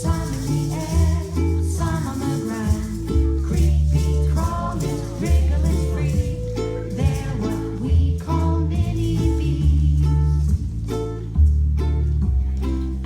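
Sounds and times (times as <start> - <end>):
plucked strings: 0.0 - 13.0
steady bass line: 0.0 - 13.0.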